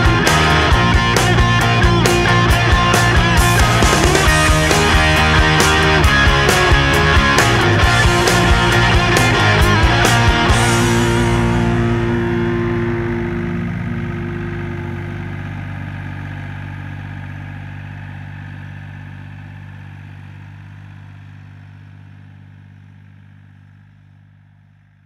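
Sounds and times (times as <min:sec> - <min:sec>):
wood chipper engine idling: 0:00.0 - 0:25.0.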